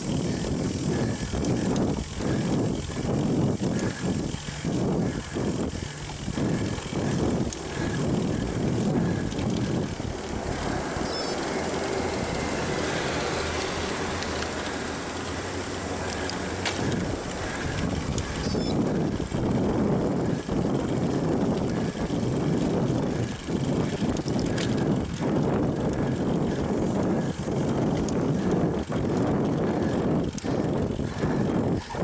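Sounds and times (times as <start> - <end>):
bicycle road noise: 0.0 - 32.0
motor vehicle passing: 0.0 - 32.0
wind: 0.0 - 32.0.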